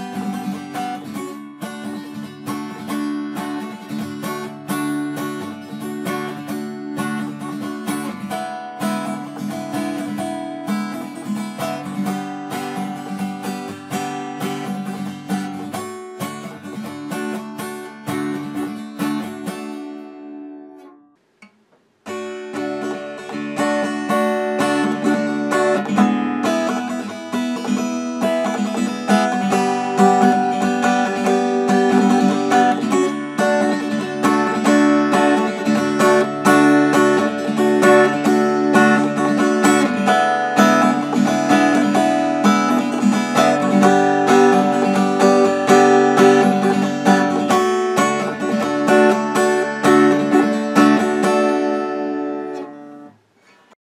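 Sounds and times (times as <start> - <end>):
acoustic guitar strumming: 0.0 - 53.8.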